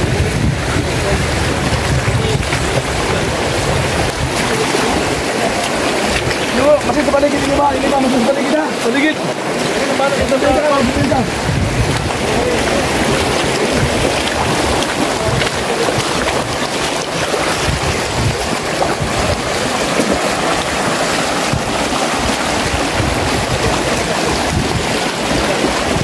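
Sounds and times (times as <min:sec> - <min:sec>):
wind buffeting microphone: 0:00.0 - 0:08.1, 0:09.4 - 0:26.0
flowing water rushing: 0:00.0 - 0:26.0
boots splashing through stream: 0:00.1 - 0:26.0.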